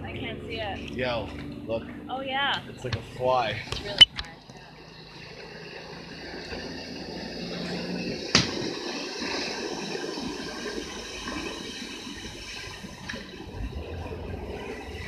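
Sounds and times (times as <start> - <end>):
water rushing and sloshing: 0.0 - 15.0.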